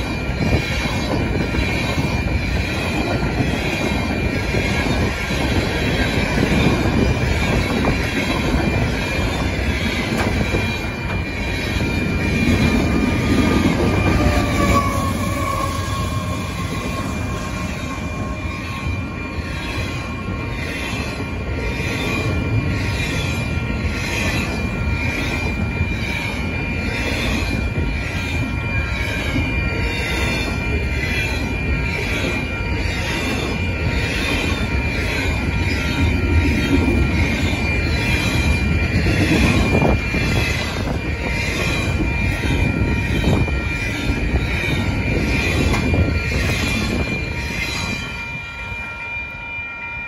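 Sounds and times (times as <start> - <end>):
crossing warning bell ringing: 0.0 - 50.0
steady high tone: 0.0 - 50.0
train wheels rumbling on rail: 0.0 - 50.0.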